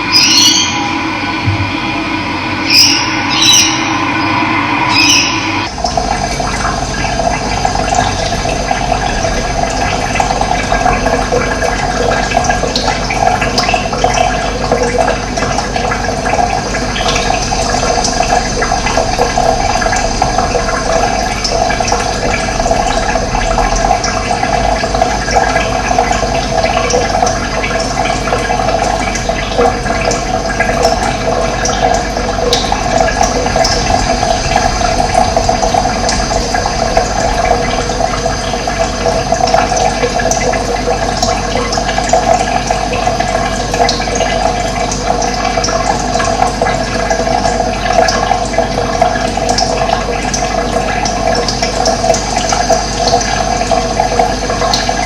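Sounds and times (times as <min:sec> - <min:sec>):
running water flowing: 0:00.0 - 0:55.0.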